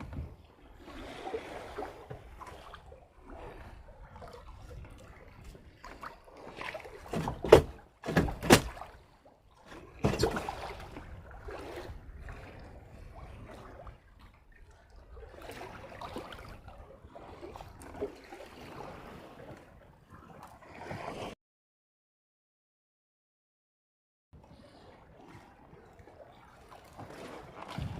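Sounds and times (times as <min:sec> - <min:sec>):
water sloshing against boat: 0:00.0 - 0:21.4, 0:24.4 - 0:27.9.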